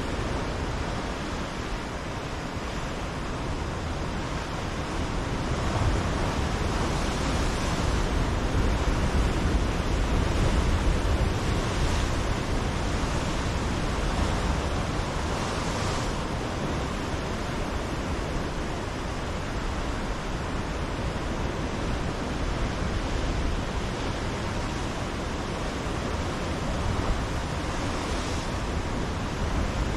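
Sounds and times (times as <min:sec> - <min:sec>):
surf washing on rocky shore: 0:00.0 - 0:29.9
waves breaking: 0:00.0 - 0:29.9.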